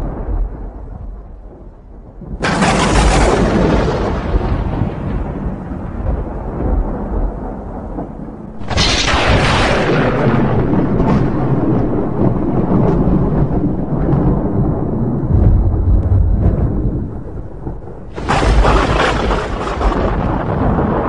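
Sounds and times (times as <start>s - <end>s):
loud thunderclap: 0.0s - 21.0s
thunder rumbling: 0.0s - 21.0s.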